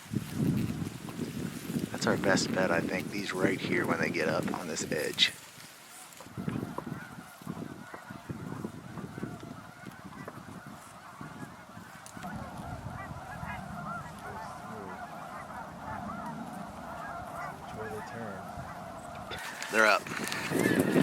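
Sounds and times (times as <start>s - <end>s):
geese honking: 1.9s - 21.0s.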